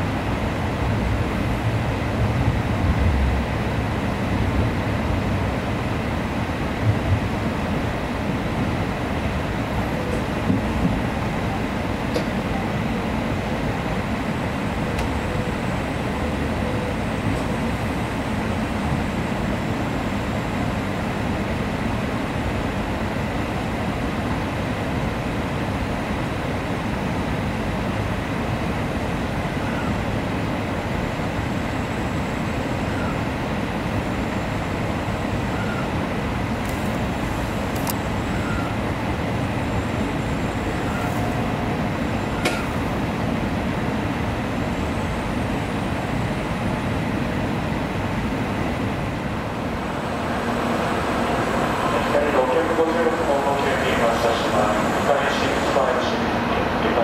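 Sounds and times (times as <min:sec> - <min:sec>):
train rumble and hiss: 0:00.0 - 0:57.0.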